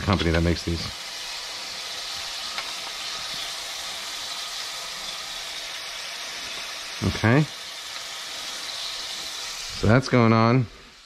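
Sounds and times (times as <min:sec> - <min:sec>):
meat sizzling in a saucepan: 0:00.0 - 0:11.0.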